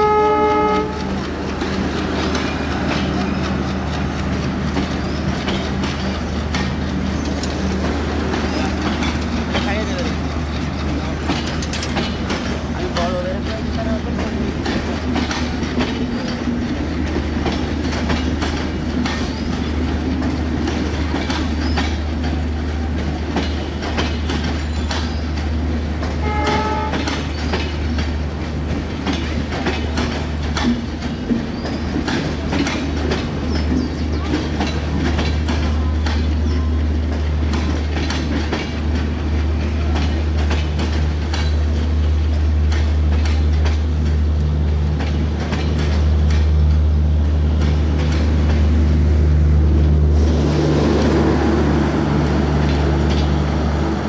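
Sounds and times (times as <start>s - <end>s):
train rumble: 0.0s - 54.0s
train wheels clicking over rail joints: 0.4s - 54.0s.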